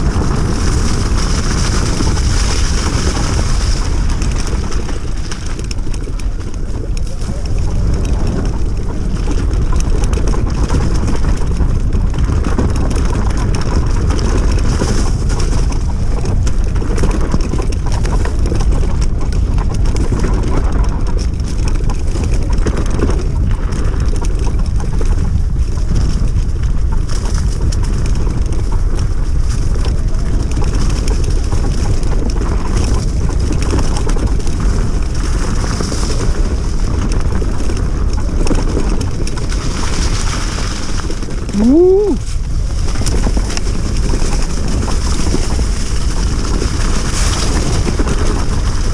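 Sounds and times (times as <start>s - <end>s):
wind rushing over microphone: 0.0s - 48.9s.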